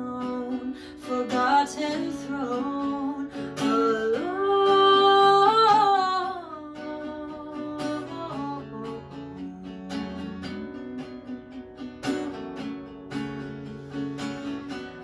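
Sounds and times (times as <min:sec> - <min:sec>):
person singing: 0:00.0 - 0:12.4
acoustic guitar strumming: 0:00.0 - 0:15.0.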